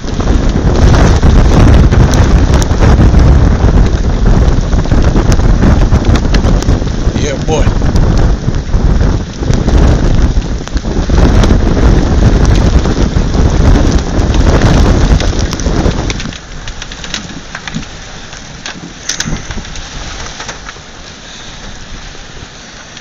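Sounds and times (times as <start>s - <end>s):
loud low rumble: 0.0s - 20.3s
heavy rain: 0.0s - 23.0s.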